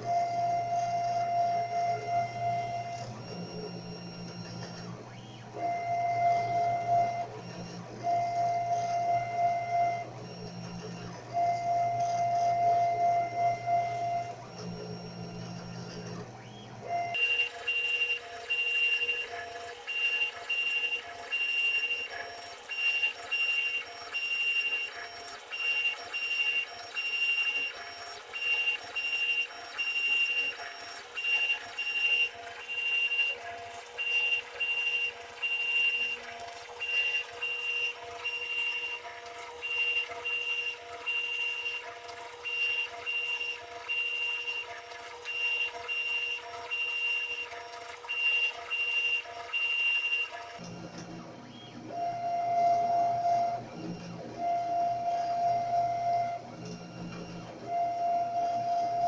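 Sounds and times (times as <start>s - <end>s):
stepper motors whining: 0.0s - 50.8s.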